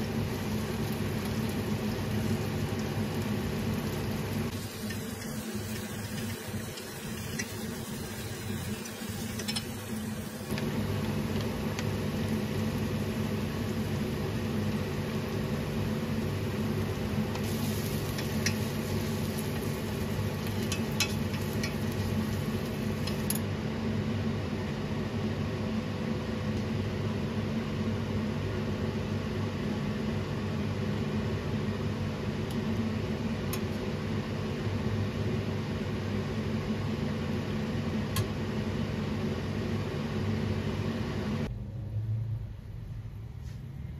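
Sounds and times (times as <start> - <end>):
appliance fan hum: 0.0 - 43.9.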